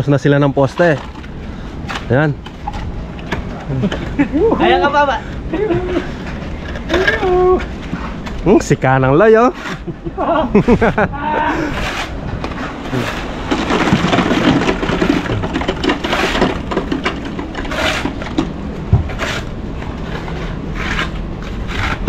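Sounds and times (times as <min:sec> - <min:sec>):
steady low rumble: 0:00.0 - 0:22.0
wet concrete scraping and crunching: 0:00.0 - 0:22.0.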